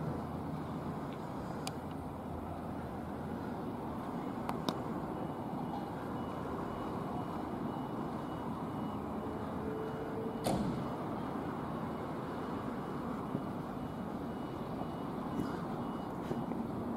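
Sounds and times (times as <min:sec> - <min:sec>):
diesel engine rumbling: 0:00.0 - 0:16.9.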